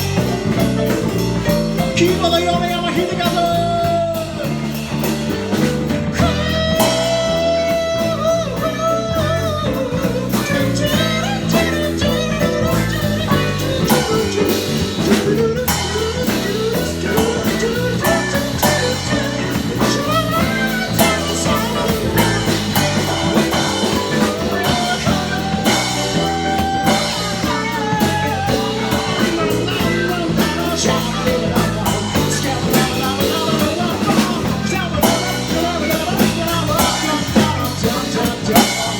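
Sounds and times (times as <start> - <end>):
gliding lead guitar: 0.0 - 38.9
rock song with drums and bass: 0.0 - 38.9.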